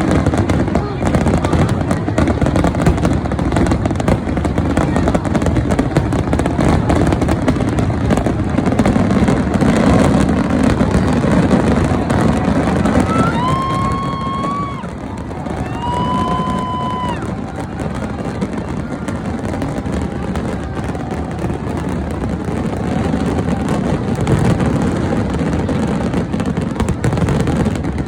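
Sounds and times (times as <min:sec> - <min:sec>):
fireworks bursts and crackling: 0:00.0 - 0:28.0.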